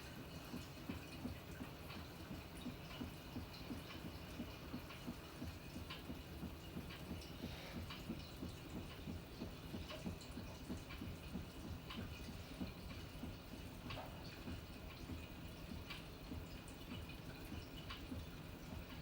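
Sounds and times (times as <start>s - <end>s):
water sloshing in washing machine: 0.0s - 19.0s.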